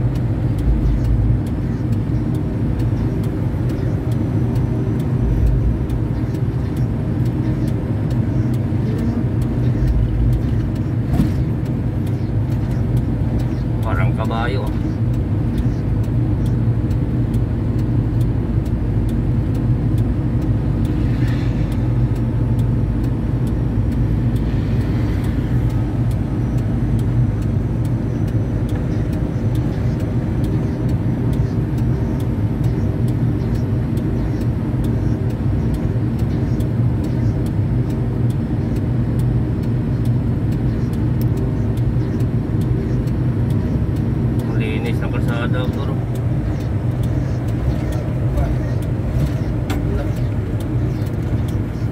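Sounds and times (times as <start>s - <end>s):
road and tyre noise: 0.0s - 51.9s
truck engine droning: 0.0s - 51.9s.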